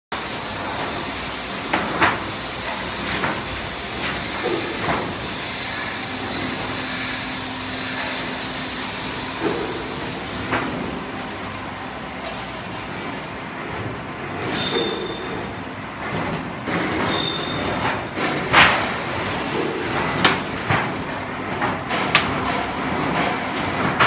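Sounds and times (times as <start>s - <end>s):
roll forming machine running: 0.2s - 24.0s.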